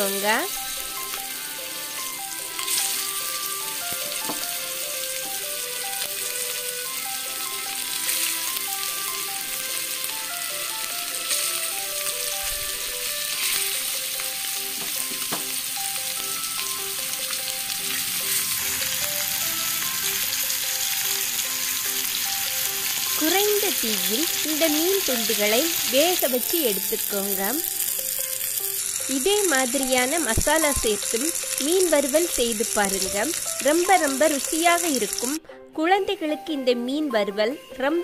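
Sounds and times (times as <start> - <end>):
fish sizzling in hot oil: 0.0 - 35.4.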